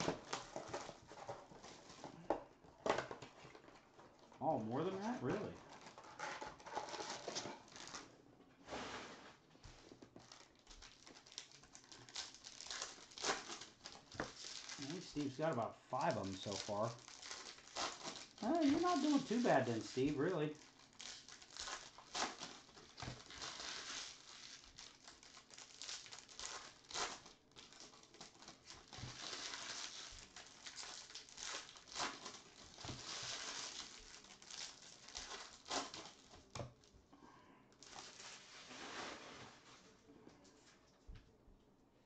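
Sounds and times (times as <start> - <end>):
plastic wrappers tearing and crinkling: 0.0 - 2.1, 2.9 - 8.1, 9.6 - 36.9, 37.7 - 39.7.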